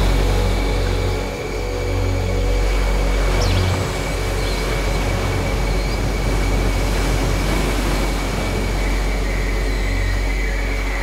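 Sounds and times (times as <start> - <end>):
deep rumbling noise: 0.0 - 11.0
faint sustained low notes: 0.0 - 11.0.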